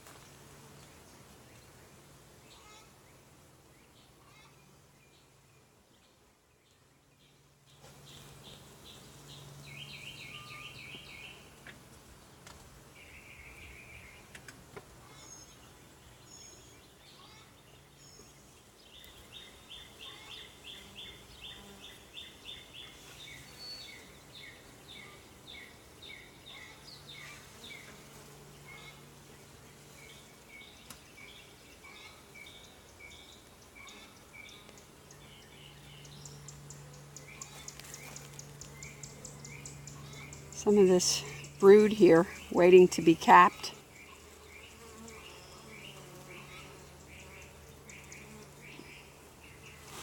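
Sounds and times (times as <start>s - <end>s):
birds chirping: 3.8s - 11.6s, 13.0s - 27.9s, 29.7s - 50.0s
honeybees humming: 7.5s - 50.0s.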